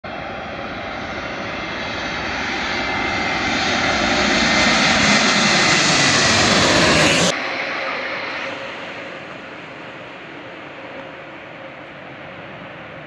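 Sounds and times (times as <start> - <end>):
jet engines rushing: 0.1 - 13.0.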